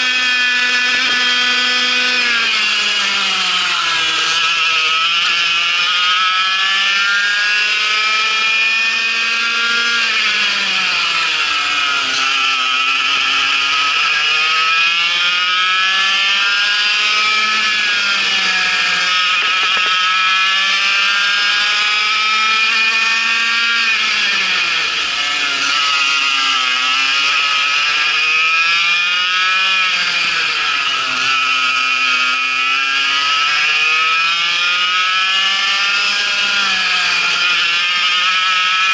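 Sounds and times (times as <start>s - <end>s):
two-stroke kart engine racing: 0.0s - 38.9s.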